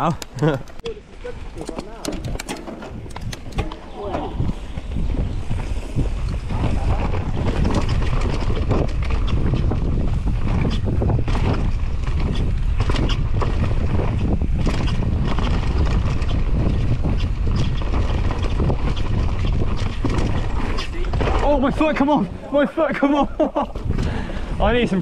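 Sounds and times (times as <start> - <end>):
wind buffeting microphone: 0.0 - 25.0
bike rattling and knocking: 1.5 - 25.0.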